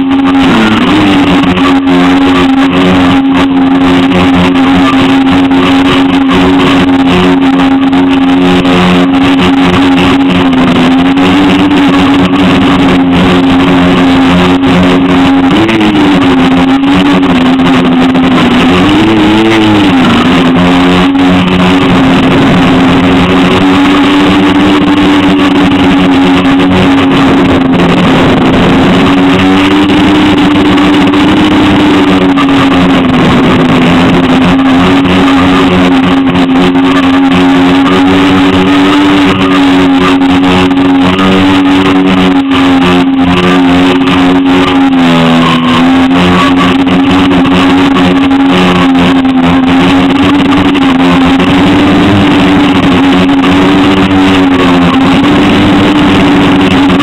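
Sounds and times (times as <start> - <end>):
drone motors and propellers humming: 0.0 - 57.0.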